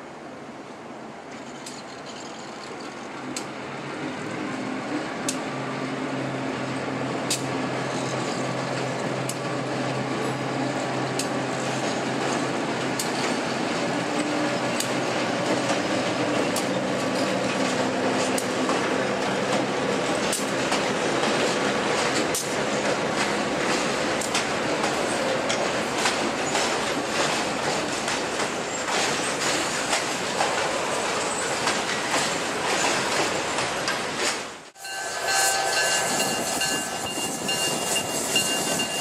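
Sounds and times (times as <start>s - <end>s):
freight cars rolling: 1.2s - 39.0s
train wheels clicking over rail joints: 1.3s - 5.6s, 7.2s - 39.0s.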